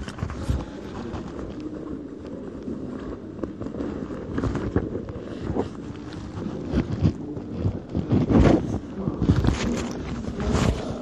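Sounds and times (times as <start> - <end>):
cloth rustling on microphone: 0.0 - 11.0.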